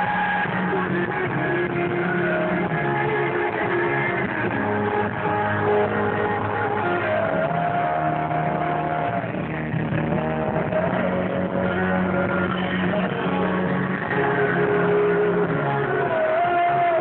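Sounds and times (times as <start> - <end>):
live acoustic band music: 0.0 - 17.0.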